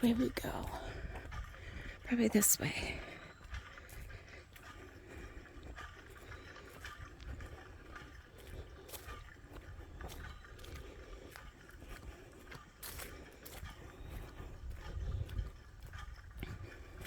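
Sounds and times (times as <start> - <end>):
footsteps on dirt trail: 0.0 - 17.0.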